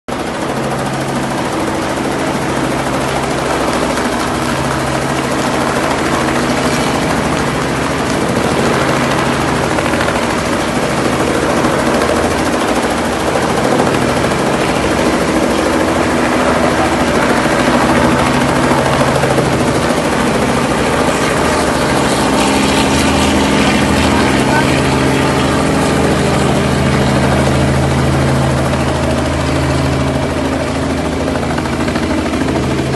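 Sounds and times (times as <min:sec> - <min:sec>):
helicopter flying low overhead: 0:00.1 - 0:32.9.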